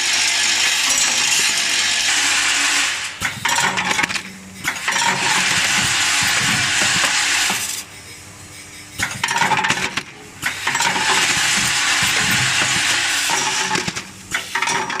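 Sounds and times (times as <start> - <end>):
small parts clattering through machine: 0.1 - 15.0.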